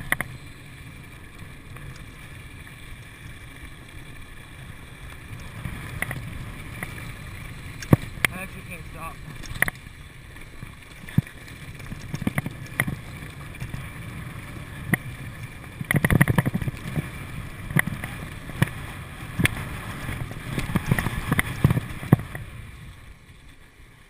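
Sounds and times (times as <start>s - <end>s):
tyres rolling over gravel: 0.0s - 24.0s.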